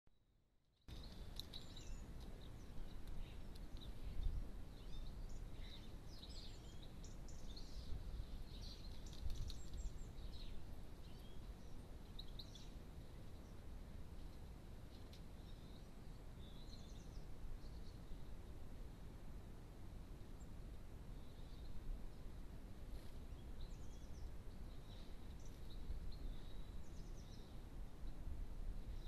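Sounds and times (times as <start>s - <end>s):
songbirds chirping: 0.8s - 29.0s.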